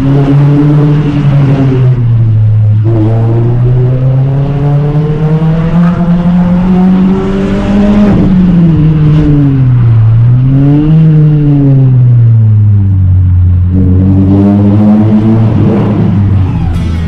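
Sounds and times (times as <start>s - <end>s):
car engine revving under load: 0.0s - 17.0s.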